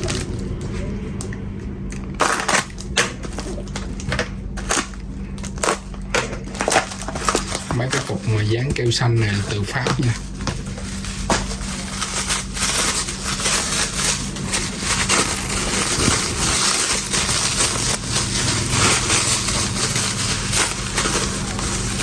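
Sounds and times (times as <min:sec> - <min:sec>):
tape and plastic tearing: 0:02.2 - 0:22.0.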